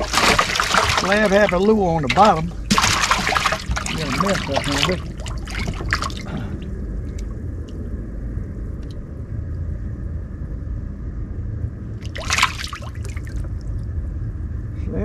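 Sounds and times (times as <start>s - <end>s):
boat engine low rumble: 0.0s - 15.0s
faint hum: 0.0s - 15.0s.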